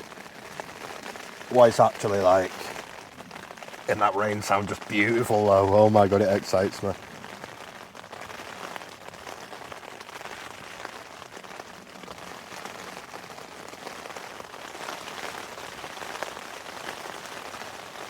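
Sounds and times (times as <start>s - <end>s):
heavy rain on tent fabric: 0.0s - 18.0s.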